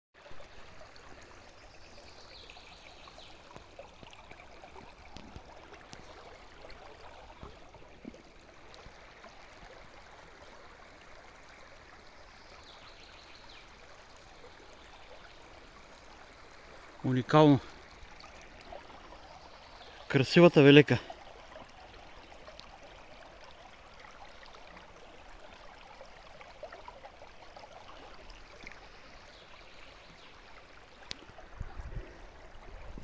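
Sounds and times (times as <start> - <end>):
stream water flowing: 0.2 - 33.0.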